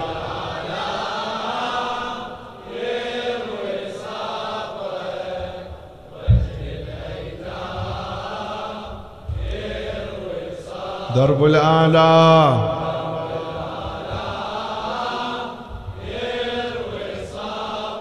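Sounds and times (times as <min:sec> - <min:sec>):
men chanting together: 0:00.0 - 0:18.0.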